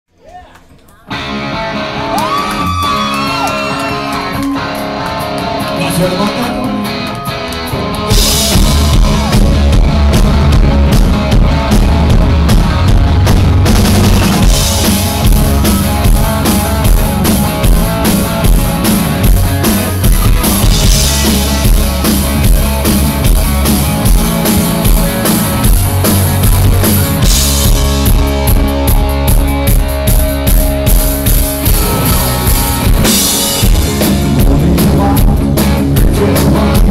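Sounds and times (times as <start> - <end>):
bass guitar: 0.1 - 36.9
drums: 0.1 - 36.9
guitar with sliding notes: 1.1 - 36.9.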